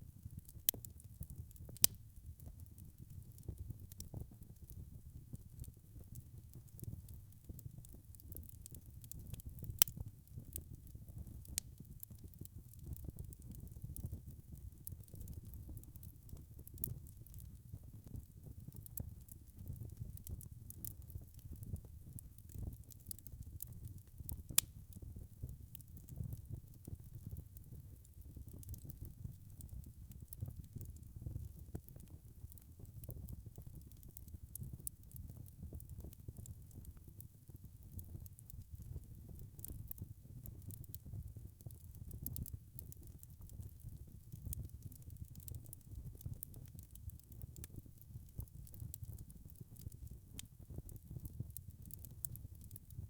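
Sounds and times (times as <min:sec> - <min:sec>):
wood fire crackling: 0:00.2 - 0:53.0.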